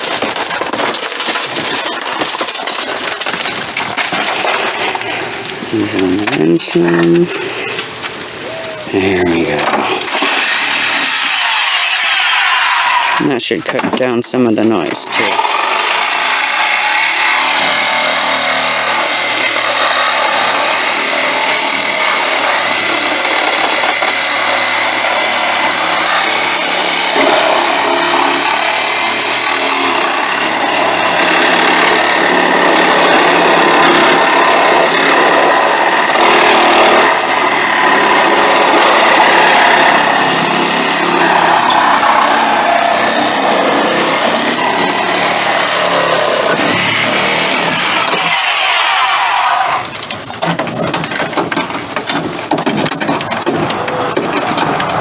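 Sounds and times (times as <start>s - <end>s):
power tool cutting: 0.0s - 55.0s.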